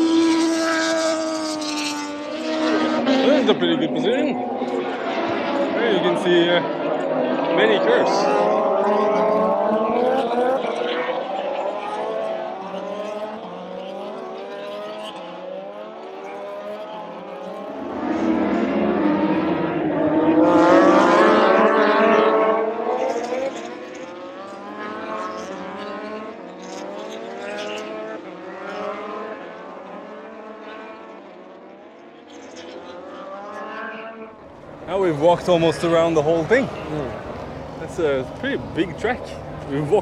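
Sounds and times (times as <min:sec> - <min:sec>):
racing motorcycles passing: 0:00.0 - 0:40.0.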